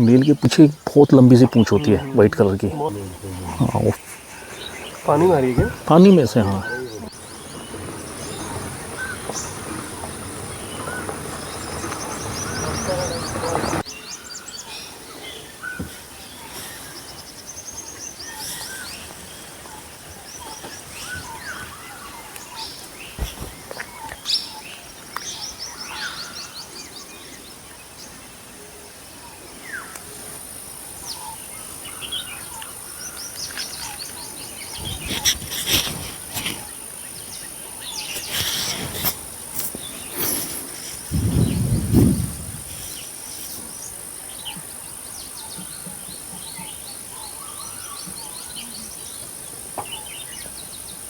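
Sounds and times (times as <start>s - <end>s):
forest birds chirping: 0.0s - 51.0s.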